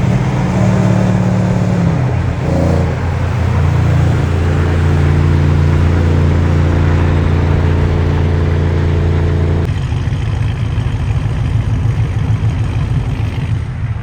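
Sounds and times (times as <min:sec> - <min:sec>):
car engine droning: 0:00.0 - 0:14.0
rough low vehicle rumble: 0:00.0 - 0:14.0.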